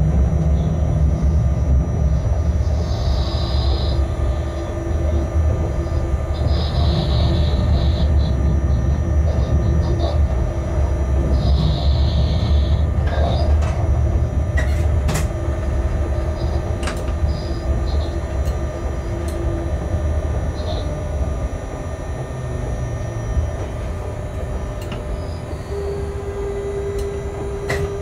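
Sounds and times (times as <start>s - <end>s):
constant hum: 0.0s - 28.0s
locomotive machinery rumbling: 0.0s - 28.0s.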